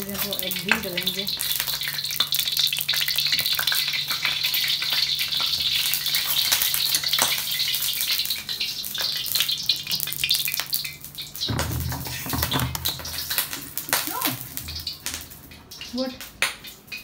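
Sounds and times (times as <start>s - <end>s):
hot oil sizzling and popping: 0.0s - 17.0s.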